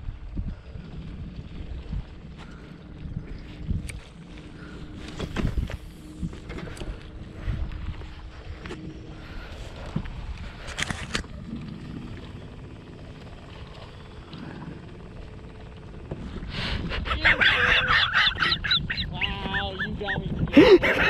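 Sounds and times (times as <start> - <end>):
low wind: 0.0 - 21.0
water noise: 0.0 - 21.0.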